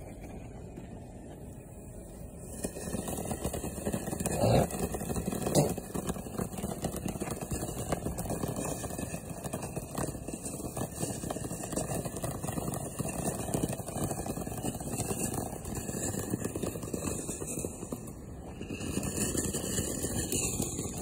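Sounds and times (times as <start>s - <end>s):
fireworks crackling: 0.0s - 21.0s
firework pop: 2.4s - 21.0s.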